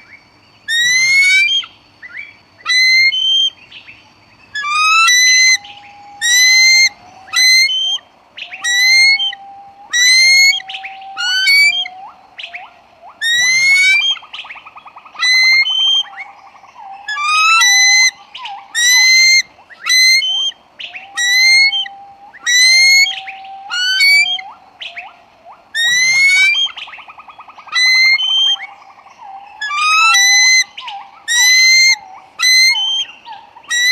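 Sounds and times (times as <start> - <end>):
low steady whistles: 0.0 - 33.9
shrill rising bird squeals: 0.7 - 1.7, 2.7 - 3.5, 4.6 - 14.3, 15.1 - 16.3, 17.0 - 25.2, 25.8 - 26.8, 27.6 - 33.1, 33.7 - 33.9.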